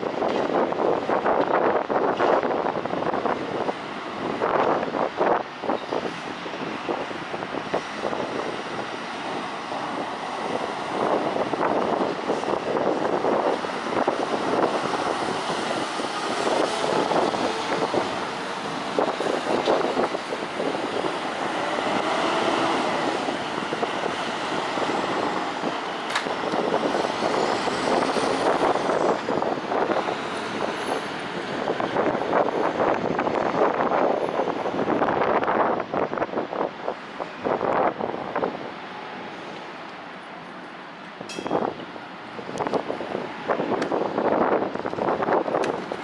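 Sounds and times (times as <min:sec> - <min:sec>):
lorries driving: 0:00.0 - 0:46.0.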